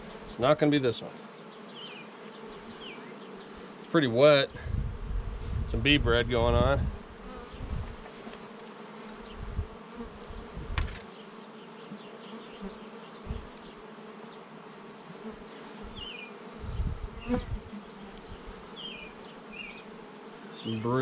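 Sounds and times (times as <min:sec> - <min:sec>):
bees humming: 0:00.0 - 0:05.8, 0:06.9 - 0:21.0.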